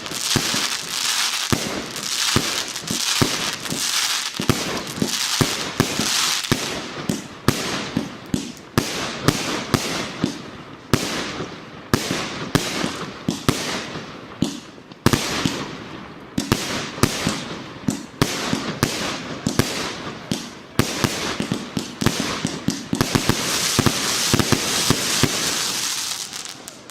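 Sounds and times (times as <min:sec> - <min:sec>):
fireworks crackling hiss: 0:00.0 - 0:26.9
fireworks launch pops and bursts: 0:00.0 - 0:26.9.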